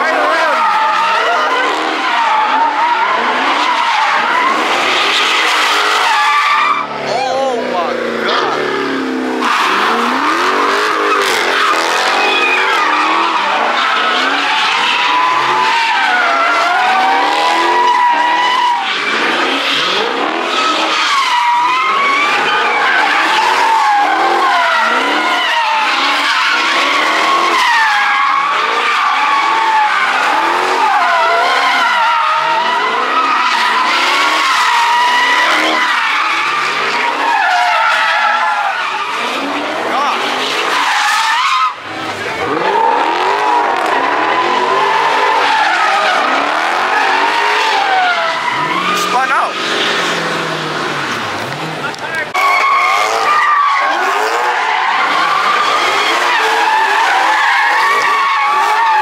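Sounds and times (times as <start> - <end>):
car engine revving: 0.0 - 59.0
tyres squealing: 0.0 - 59.0.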